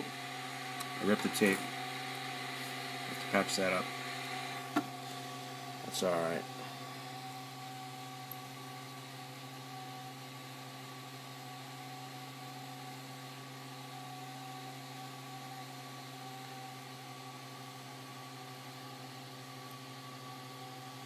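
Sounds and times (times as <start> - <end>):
printer humming with steady tones: 0.0 - 21.0.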